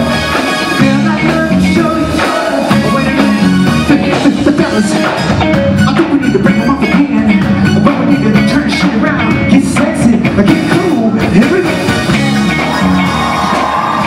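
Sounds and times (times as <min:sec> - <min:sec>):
drum kit beat: 0:00.0 - 0:14.0
live funk band playing: 0:00.0 - 0:14.0.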